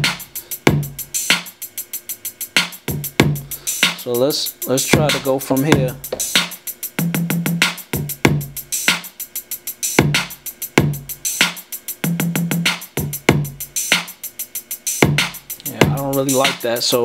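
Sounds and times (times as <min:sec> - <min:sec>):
hip-hop drum loop: 0:00.0 - 0:17.0.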